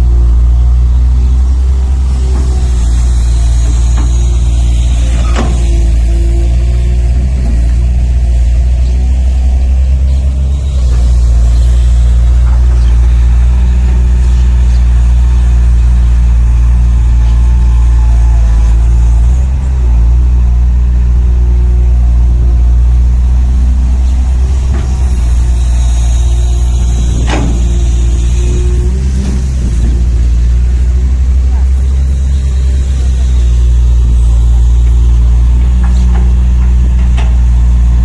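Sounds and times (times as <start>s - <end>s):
model diesel engine sound: 0.0s - 38.0s.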